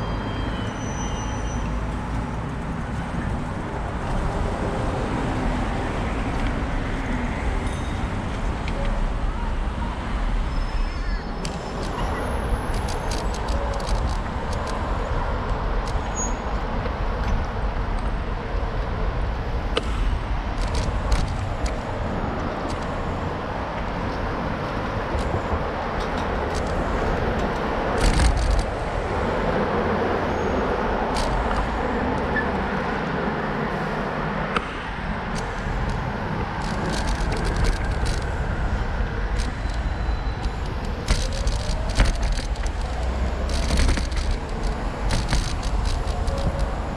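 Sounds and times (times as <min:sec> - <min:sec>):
rumble of passing cars: 0:00.0 - 0:46.9.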